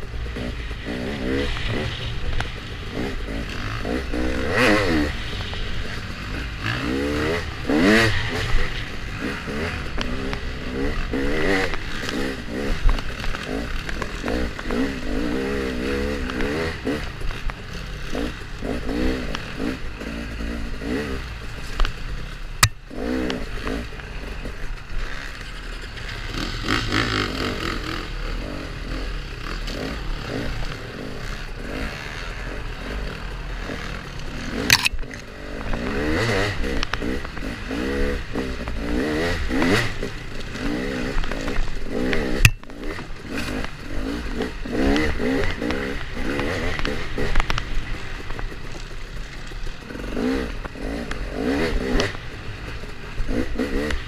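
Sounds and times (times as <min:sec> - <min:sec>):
bike rattling: 0:00.0 - 0:54.0
dirt bike engine revving: 0:00.0 - 0:54.0.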